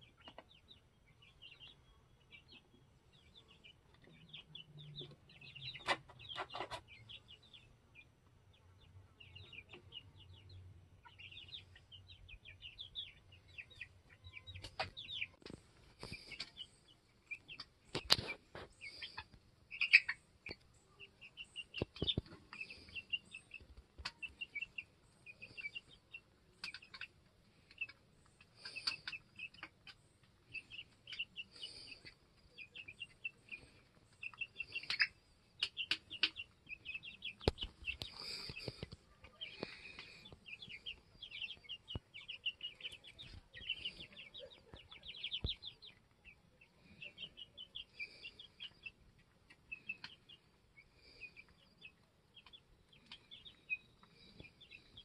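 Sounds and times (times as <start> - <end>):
chickens peeping and clucking: 0.0 - 55.0.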